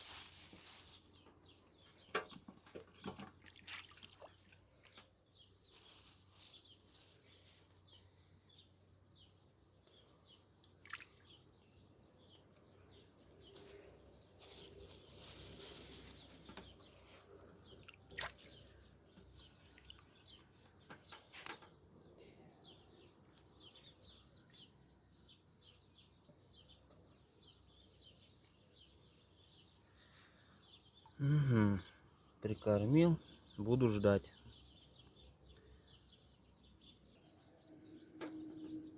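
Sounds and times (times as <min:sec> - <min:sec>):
faint bird chirps: 0:04.2 - 0:38.9.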